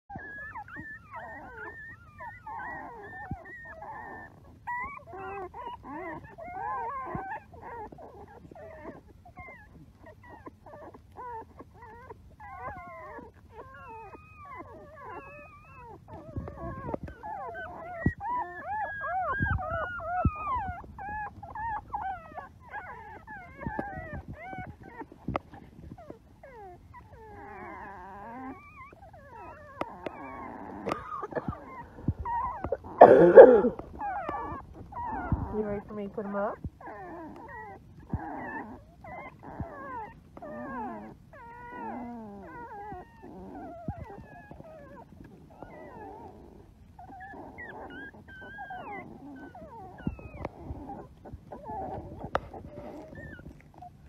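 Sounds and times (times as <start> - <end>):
puppies squeaking and whimpering: 0.1 - 54.0.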